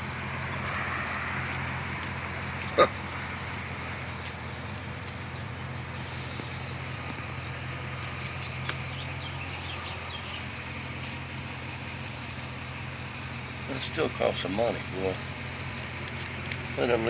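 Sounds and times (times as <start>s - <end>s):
outdoor background noise: 0.0s - 17.0s
vehicle engine idling: 0.0s - 17.0s.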